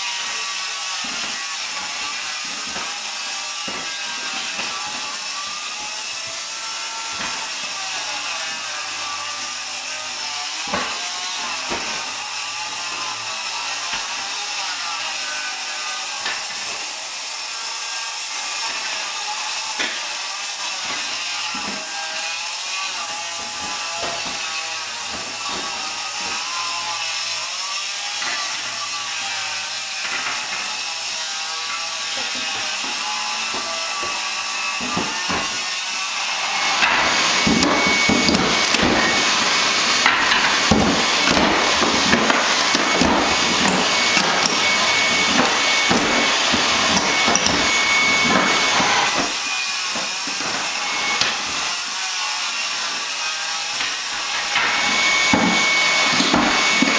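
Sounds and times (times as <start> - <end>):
wood creaking and rasping: 0.0 - 56.9.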